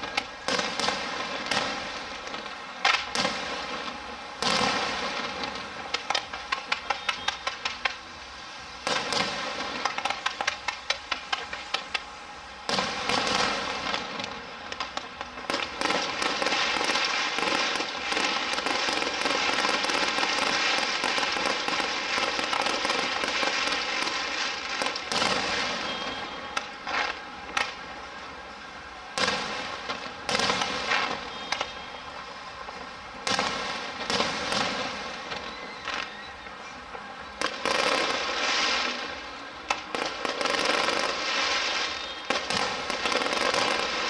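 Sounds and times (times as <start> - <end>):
fireworks crackling: 0.0 - 44.0
fireworks popping: 0.0 - 44.0.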